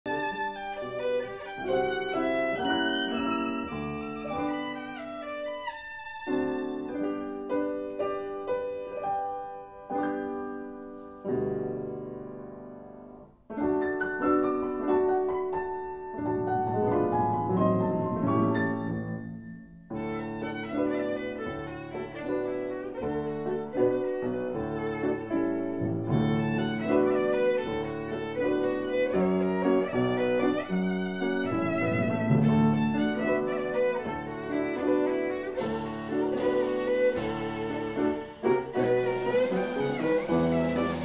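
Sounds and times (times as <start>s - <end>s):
instrumental melody: 0.1s - 41.0s.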